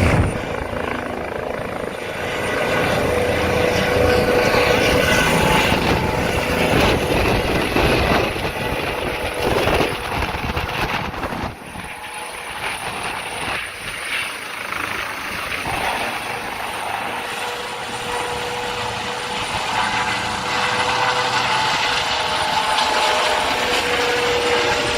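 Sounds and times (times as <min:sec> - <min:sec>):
helicopter turbine and rotor: 0:00.0 - 0:24.9.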